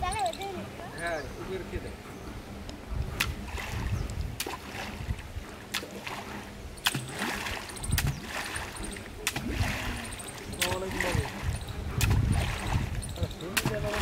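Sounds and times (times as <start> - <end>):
water splashing and sloshing: 1.7 - 14.0.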